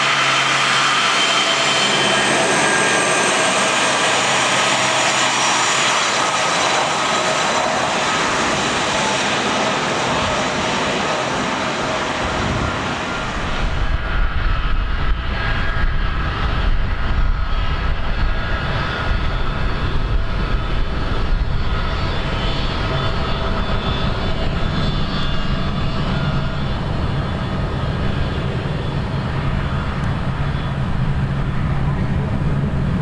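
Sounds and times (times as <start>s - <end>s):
jet engines rumbling with whine: 0.0s - 33.0s.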